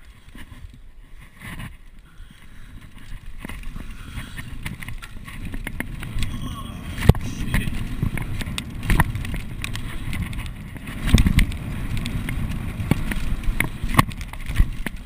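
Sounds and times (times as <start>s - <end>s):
bike knocking and rattling: 0.0s - 6.4s, 7.0s - 15.0s
wind and tyres rumbling: 0.0s - 15.0s.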